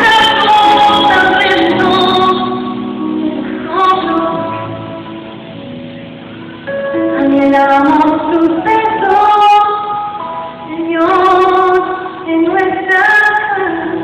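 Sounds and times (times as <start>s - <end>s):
woman singing worship song: 0.0s - 5.2s, 7.1s - 14.0s.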